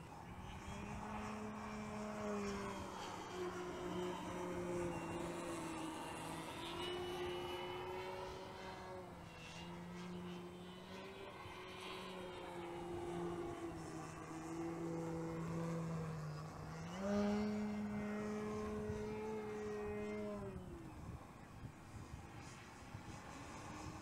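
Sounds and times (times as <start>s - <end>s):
model airplane motor drone: 0.0s - 24.0s.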